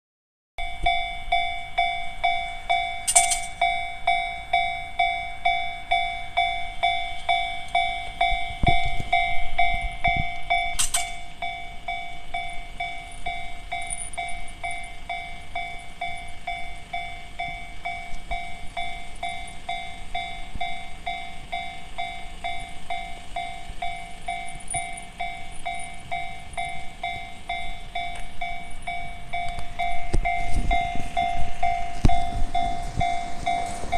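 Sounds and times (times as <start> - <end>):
level crossing bell dinging: 0.6 - 33.9
low rumble: 5.4 - 33.9.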